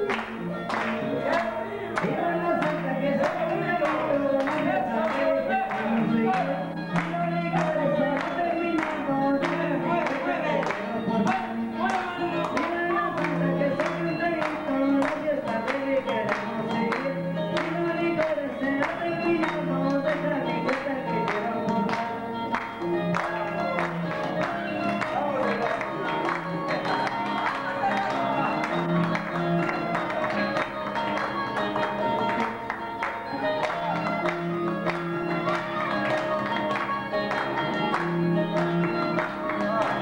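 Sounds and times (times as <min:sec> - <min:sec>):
dance music with singing: 0:00.0 - 0:40.0.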